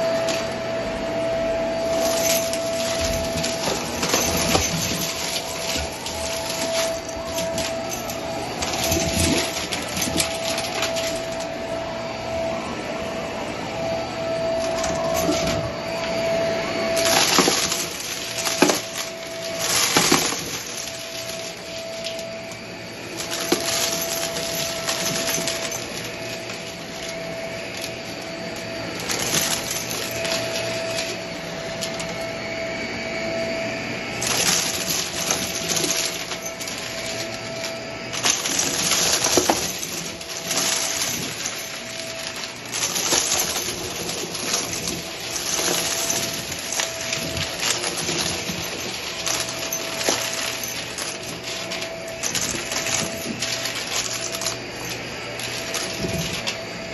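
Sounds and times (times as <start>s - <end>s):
debris crackling and rattling: 0.0s - 0.7s, 1.7s - 11.8s, 14.4s - 32.4s, 34.1s - 56.7s
vacuum cleaner motor whine: 0.0s - 56.9s.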